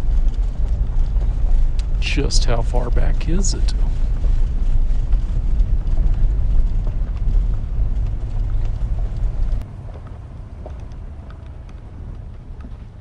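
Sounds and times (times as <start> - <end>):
gravel ticking under tyres: 0.0 - 13.0
vehicle rolling on gravel: 0.0 - 13.0.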